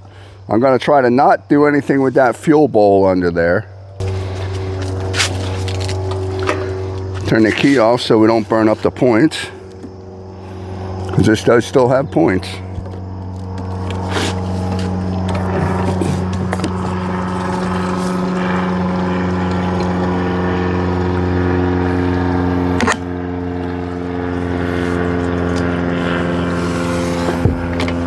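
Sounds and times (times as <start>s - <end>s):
small engine running: 3.7s - 28.0s.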